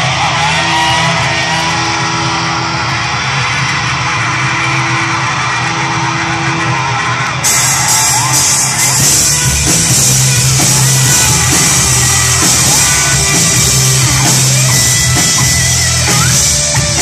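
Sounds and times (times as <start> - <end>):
crowd noise: 0.0 - 17.0
distorted electric guitar: 0.0 - 17.0.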